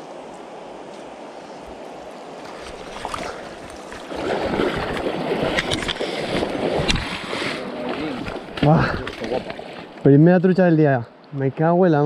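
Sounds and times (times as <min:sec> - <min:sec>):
water splashing and sloshing: 0:00.0 - 0:11.4
river water running: 0:00.0 - 0:12.0.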